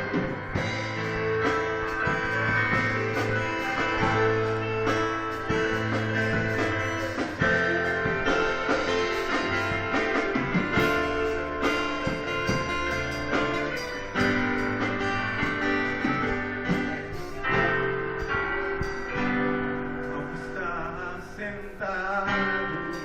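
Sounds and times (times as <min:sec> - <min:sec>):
guitars strumming and picking: 0:00.0 - 0:23.0
steady bass line: 0:00.0 - 0:23.0.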